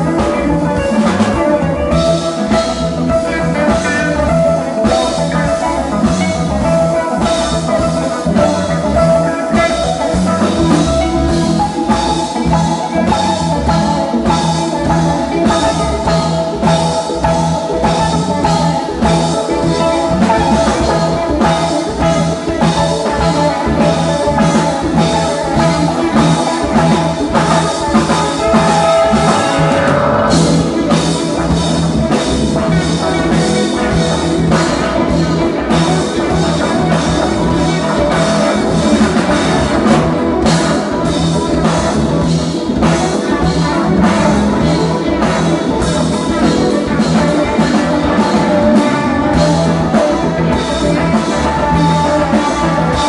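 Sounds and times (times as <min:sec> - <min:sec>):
live rock band playing: 0:00.0 - 0:53.0
steady drum beat: 0:00.0 - 0:53.0.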